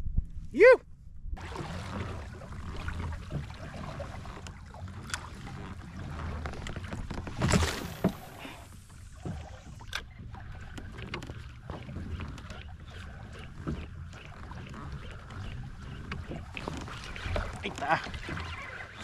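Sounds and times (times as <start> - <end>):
water and wind wash: 0.0 - 19.0.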